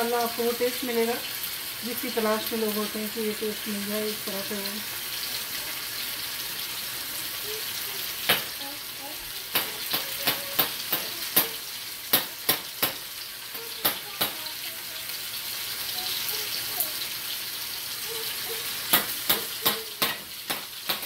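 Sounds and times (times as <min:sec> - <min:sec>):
meat sizzling in oil: 0:00.0 - 0:21.0
oil popping and crackling: 0:00.0 - 0:21.0.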